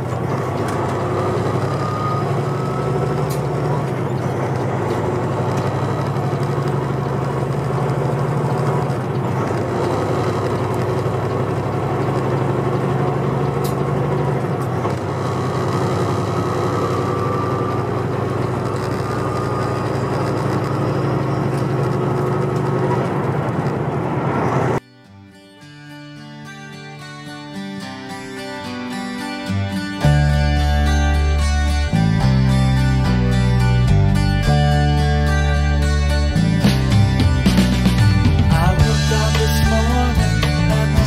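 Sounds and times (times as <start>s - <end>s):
truck diesel engine droning: 0.0s - 24.8s, 25.9s - 41.0s
tyre and road noise: 0.0s - 24.8s, 29.4s - 41.0s.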